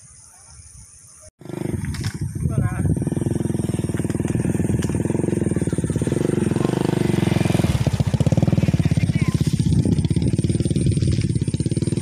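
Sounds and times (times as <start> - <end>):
small engine puttering: 1.4 - 12.0.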